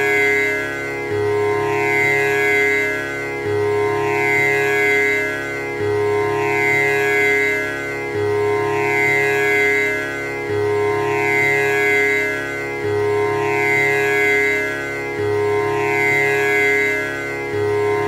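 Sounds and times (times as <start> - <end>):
tanpura drone: 0.0 - 18.0.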